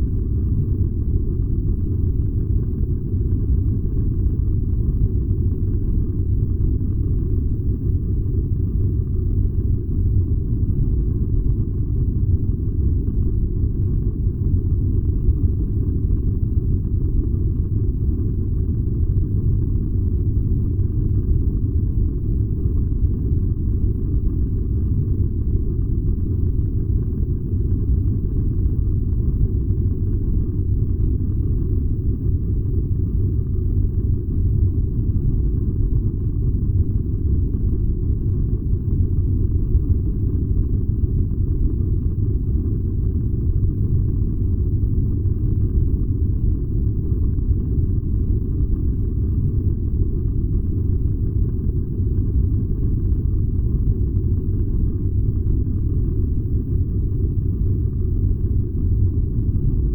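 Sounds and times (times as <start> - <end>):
furnace low rumble: 0.0 - 59.9.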